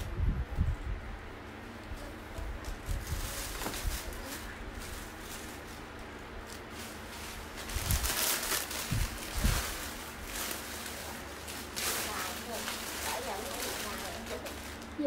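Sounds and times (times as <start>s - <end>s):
clothes rustling: 2.0s - 15.0s.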